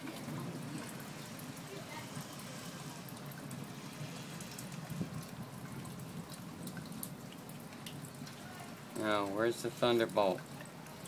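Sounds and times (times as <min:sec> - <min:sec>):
rain falling steadily: 0:00.0 - 0:11.0
water drips: 0:00.0 - 0:11.0.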